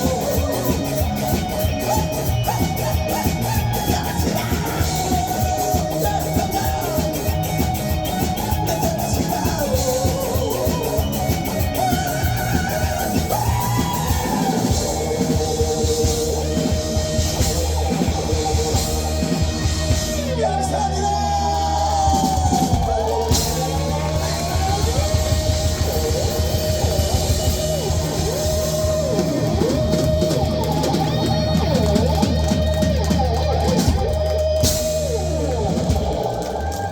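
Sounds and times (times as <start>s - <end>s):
live rock band playing: 0.0s - 36.9s
sliding lead guitar line: 0.0s - 36.9s.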